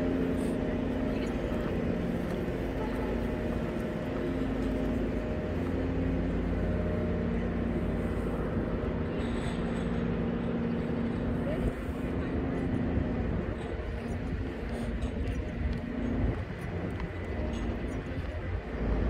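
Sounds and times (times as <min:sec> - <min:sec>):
motor running steadily: 0:00.0 - 0:19.0.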